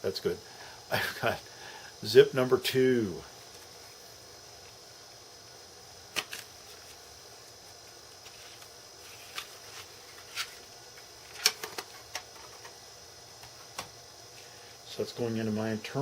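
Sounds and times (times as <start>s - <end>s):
computer fan humming: 0.0s - 16.0s
faint high whine: 0.0s - 16.0s.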